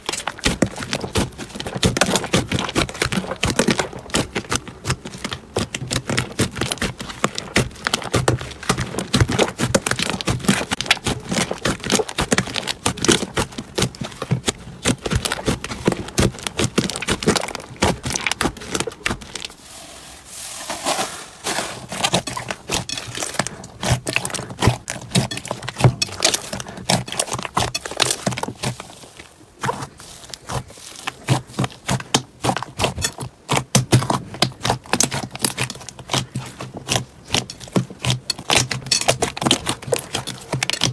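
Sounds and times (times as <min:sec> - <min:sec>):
slime clicking and crackling: 0:00.0 - 0:19.6, 0:21.5 - 0:40.9.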